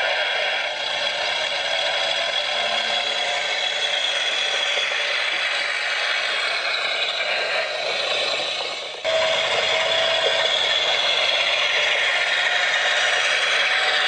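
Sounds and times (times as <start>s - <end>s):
engine sound effect through small speaker: 0.0s - 14.0s.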